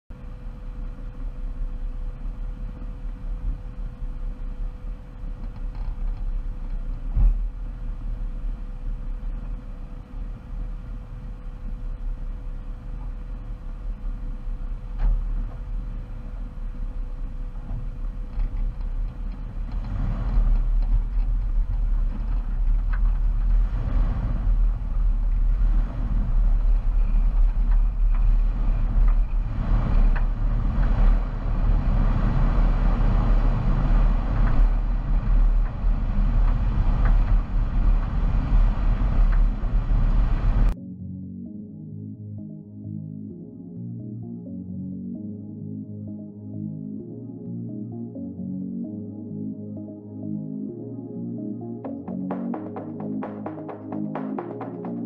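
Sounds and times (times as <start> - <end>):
car engine rumbling: 0.1 - 40.8, 51.4 - 55.0.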